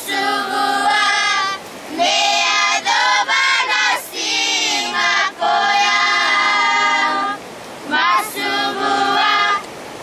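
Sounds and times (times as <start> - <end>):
children singing unaccompanied: 0.0 - 9.7.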